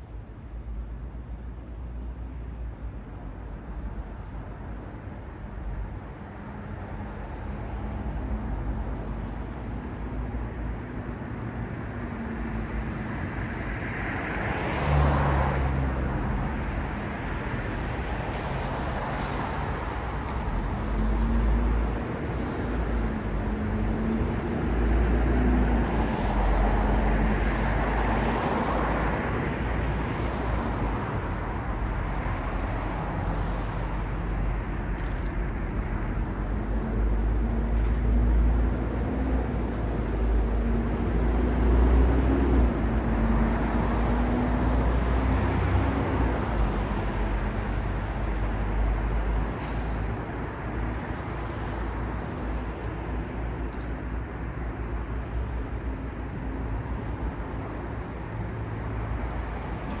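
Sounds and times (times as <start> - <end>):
cars and buses passing: 0.1 - 60.0.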